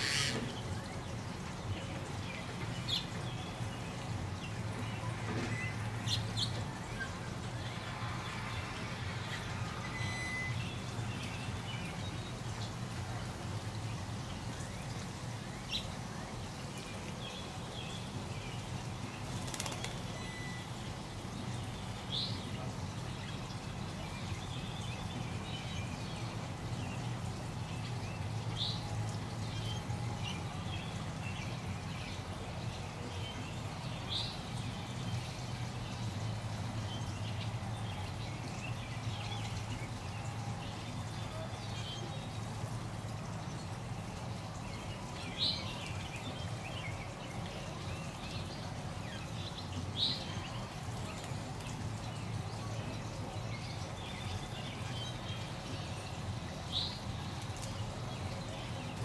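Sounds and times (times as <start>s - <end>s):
small birds chirping: 0.0s - 8.0s, 9.4s - 59.0s
water trickling in a stream: 0.0s - 59.0s.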